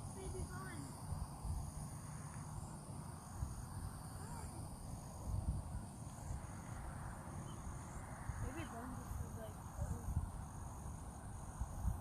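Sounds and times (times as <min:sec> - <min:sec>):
insects buzzing high-pitched: 0:00.0 - 0:12.0.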